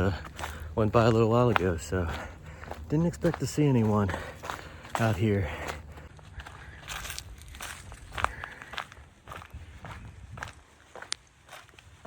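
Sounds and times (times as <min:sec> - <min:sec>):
footsteps on wooded trail: 0:00.0 - 0:12.0.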